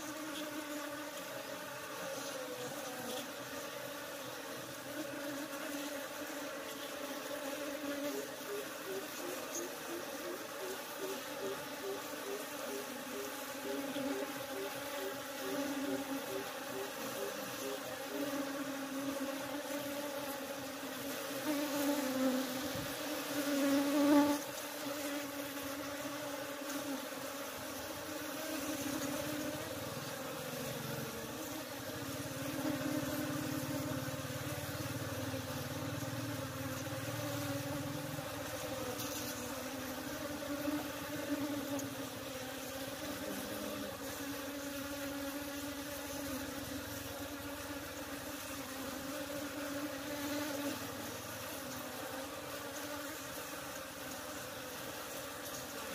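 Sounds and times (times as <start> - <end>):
honeybees buzzing: 0.0 - 55.9.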